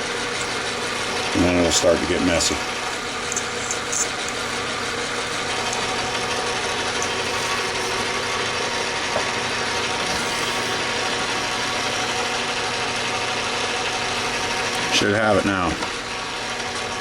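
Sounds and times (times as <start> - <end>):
lathe motor hum: 0.0 - 17.0
lathe tool cutting metal: 0.0 - 17.0.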